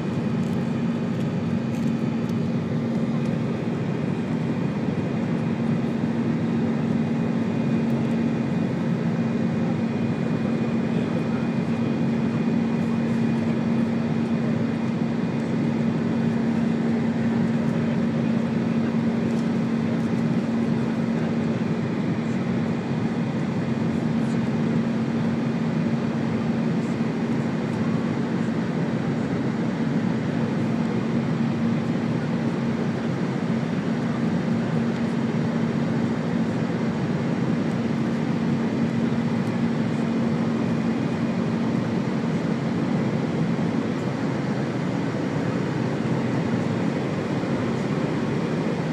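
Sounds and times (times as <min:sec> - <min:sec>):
jet engines and airflow in cabin: 0:00.0 - 0:48.9.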